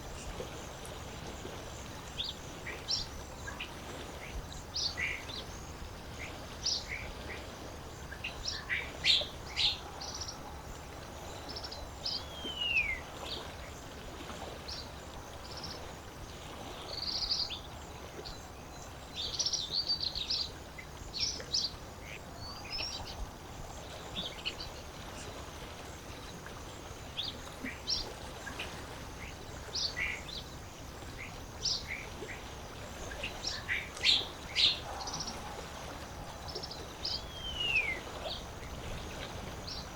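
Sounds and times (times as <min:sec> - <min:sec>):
lake water washing: 0:00.0 - 0:39.9.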